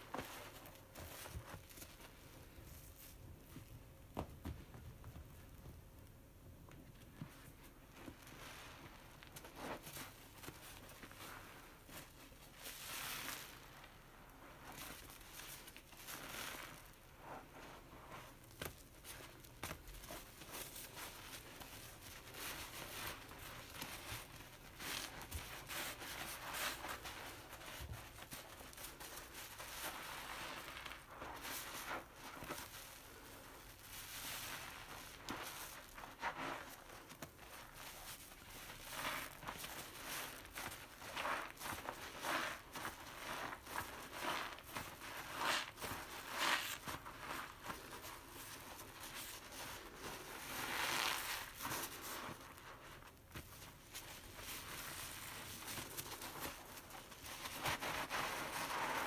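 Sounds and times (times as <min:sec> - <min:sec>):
sponge squishing in suds: 0:07.9 - 0:53.1, 0:53.8 - 0:59.0.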